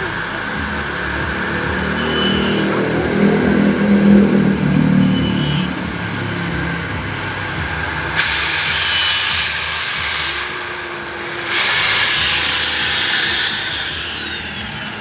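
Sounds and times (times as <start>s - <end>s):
angle grinder whining: 0.0s - 15.0s
grinder grinding metal: 0.0s - 15.0s.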